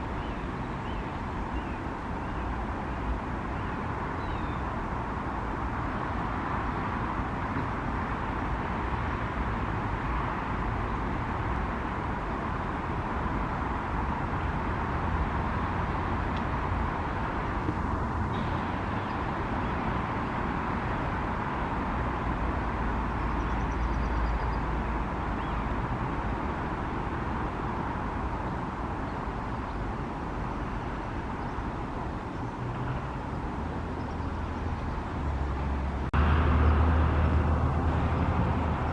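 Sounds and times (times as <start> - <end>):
distant road traffic hum: 0.0 - 38.9.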